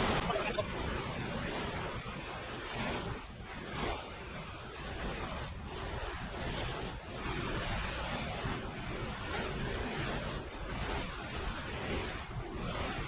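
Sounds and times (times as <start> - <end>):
surf washing on a beach: 0.0 - 13.0
wind buffeting the microphone: 0.0 - 13.0.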